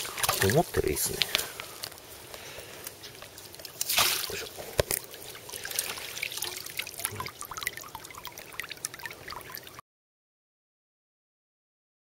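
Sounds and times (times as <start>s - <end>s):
water splashing and dripping: 0.0s - 9.8s.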